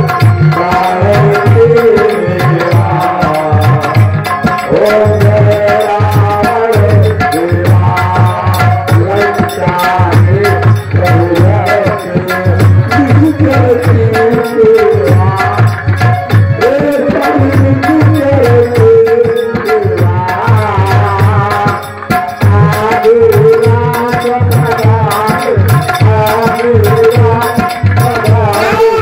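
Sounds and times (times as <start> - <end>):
tabla beating: 0.0 - 29.0.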